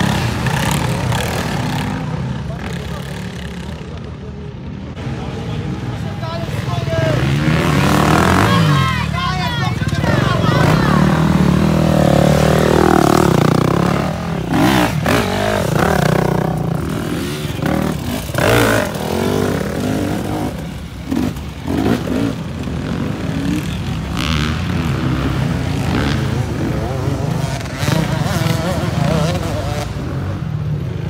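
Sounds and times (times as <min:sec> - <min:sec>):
motorcycle engine revving: 0:00.0 - 0:04.0, 0:06.5 - 0:09.0, 0:09.7 - 0:31.0.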